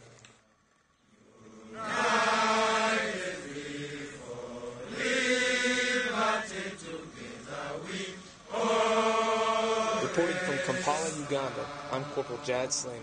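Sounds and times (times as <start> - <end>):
group singing together: 1.1 - 13.0.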